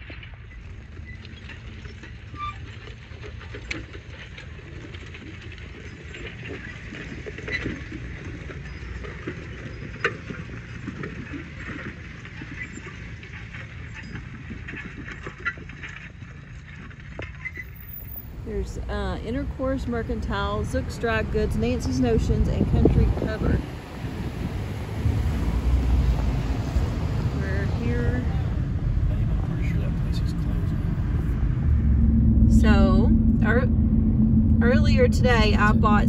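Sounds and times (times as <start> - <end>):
car road rumble: 0.0 - 36.0.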